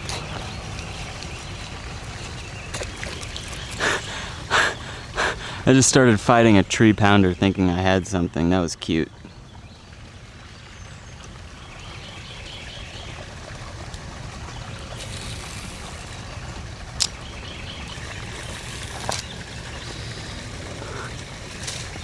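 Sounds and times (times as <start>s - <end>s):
trickling water: 0.0s - 22.0s.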